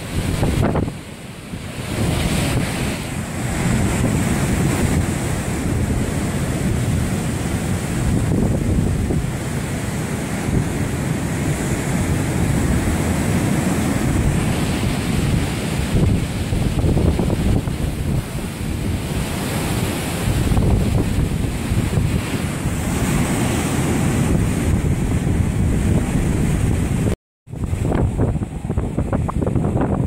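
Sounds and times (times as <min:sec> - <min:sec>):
surf breaking on beach: 0:00.0 - 0:30.0
wind on microphone: 0:00.0 - 0:30.0.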